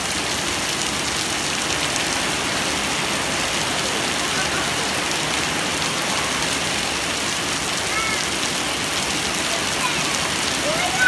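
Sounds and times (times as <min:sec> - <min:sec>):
rain falling on gravel and puddles: 0:00.0 - 0:11.0.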